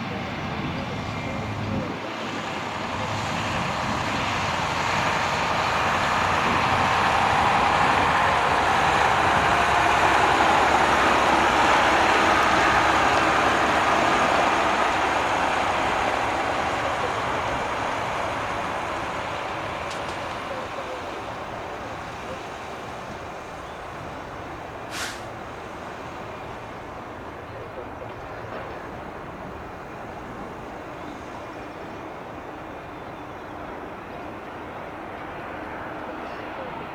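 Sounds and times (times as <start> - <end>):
jet airliner passing: 0.0 - 36.9.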